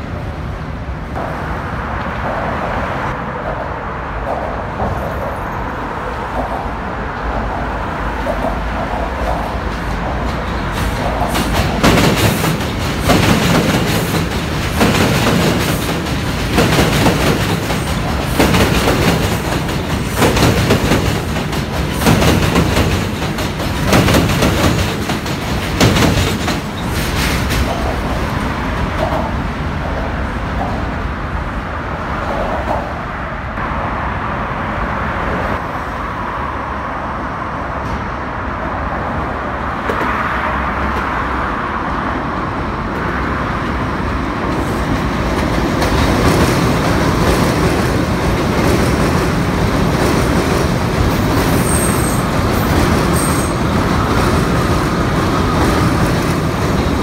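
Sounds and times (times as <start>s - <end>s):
subway train rumbling on steel track: 0.0s - 57.0s.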